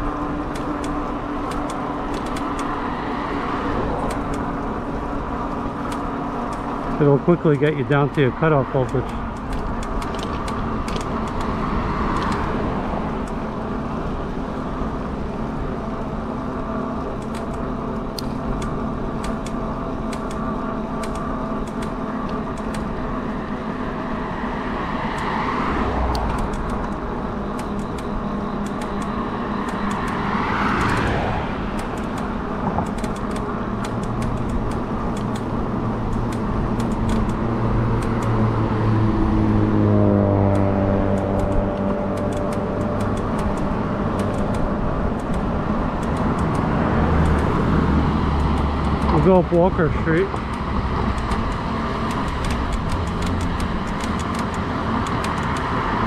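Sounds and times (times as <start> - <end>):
traffic passing: 0.0 - 56.0.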